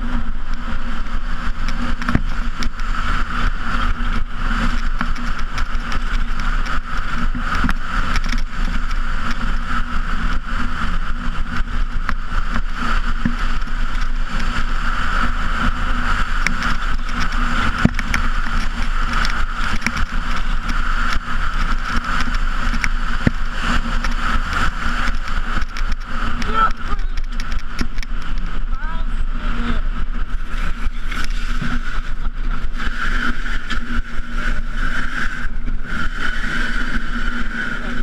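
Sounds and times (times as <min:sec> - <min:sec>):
sled knocking and rattling: 0:00.0 - 0:29.0, 0:29.6 - 0:38.0
sled runners rumbling on ice: 0:00.0 - 0:38.0.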